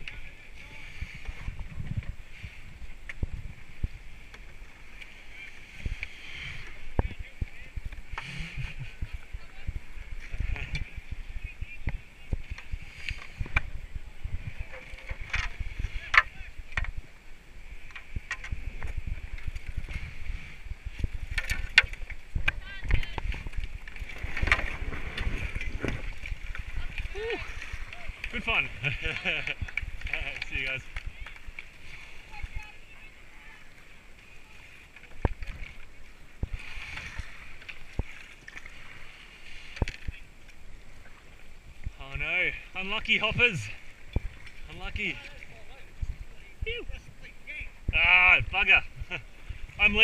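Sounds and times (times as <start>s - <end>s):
wind rumble on microphone: 0.0s - 33.7s, 34.3s - 42.3s, 43.0s - 50.0s
white water rushing: 3.5s - 50.0s.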